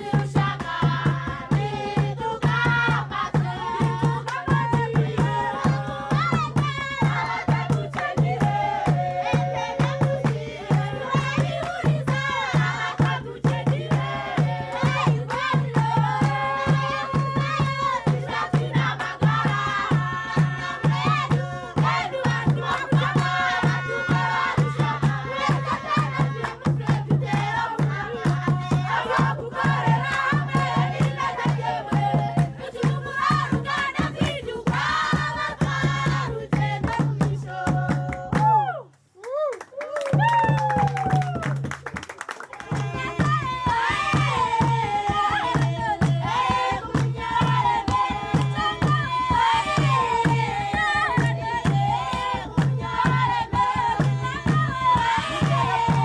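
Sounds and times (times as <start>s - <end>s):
driving drumbeat: 0.0s - 38.7s, 40.1s - 42.0s, 42.6s - 56.0s
voices singing in chorus: 0.0s - 38.8s, 42.5s - 56.0s.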